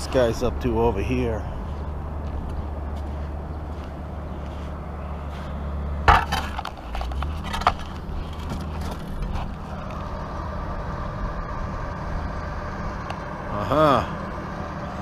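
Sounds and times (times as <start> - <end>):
earth-moving machine engine drone: 0.0 - 15.0.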